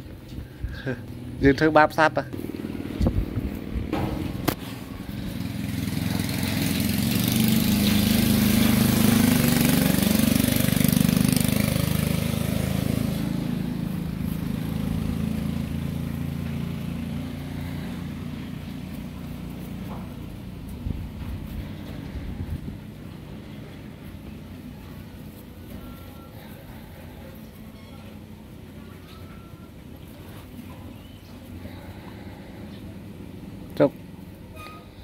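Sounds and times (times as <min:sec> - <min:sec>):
vehicle engine passing by: 0:00.0 - 0:35.0.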